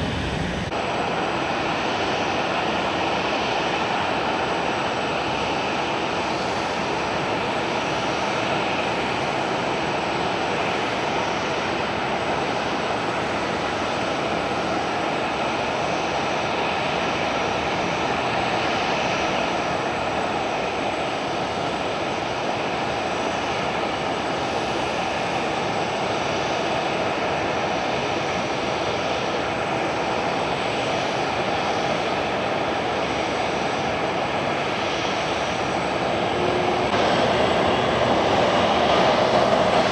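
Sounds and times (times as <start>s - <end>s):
jet airliner engines running: 0.0s - 39.9s.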